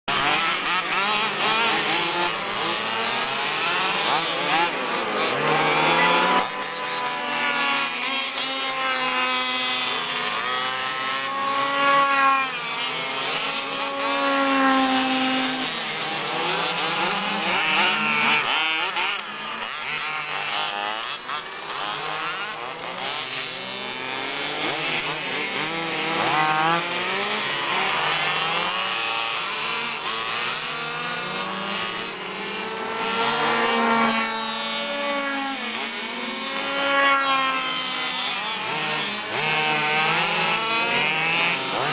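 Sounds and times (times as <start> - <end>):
small two-stroke engines buzzing: 0.0 - 41.9.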